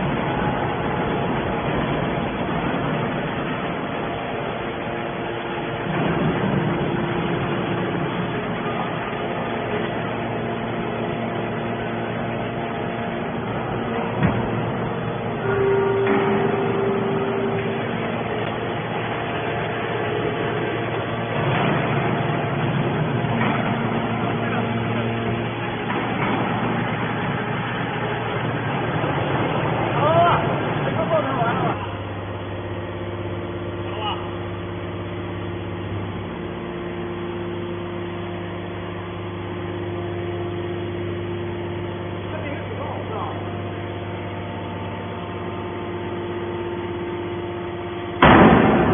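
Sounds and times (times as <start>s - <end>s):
hydraulic baler droning: 0.0s - 48.9s.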